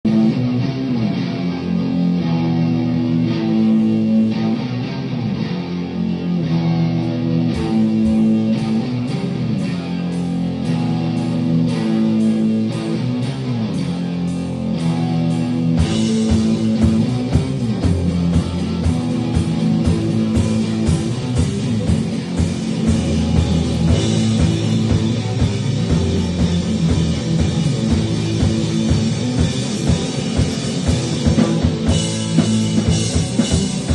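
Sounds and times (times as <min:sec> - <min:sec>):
rock band playing live: 0:00.0 - 0:33.9
drum kit: 0:00.1 - 0:33.9.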